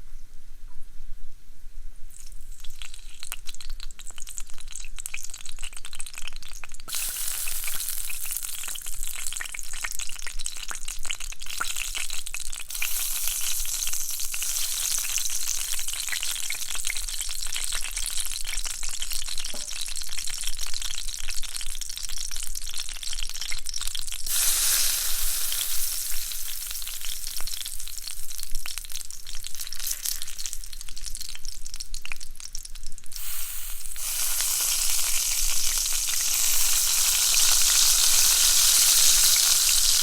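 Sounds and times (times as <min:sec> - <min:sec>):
bacon frying and sizzling: 0:02.1 - 0:40.0.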